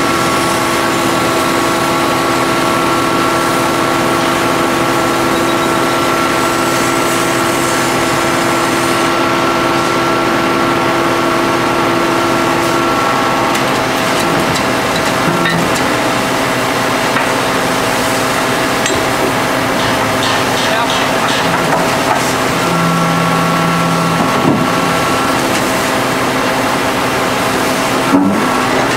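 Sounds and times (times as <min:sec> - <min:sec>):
hydraulic power pack drone and whine: 0:00.0 - 0:28.9.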